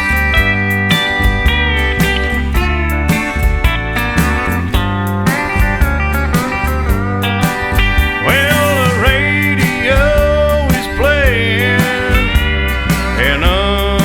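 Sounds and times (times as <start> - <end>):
country song with guitars: 0.0 - 14.0.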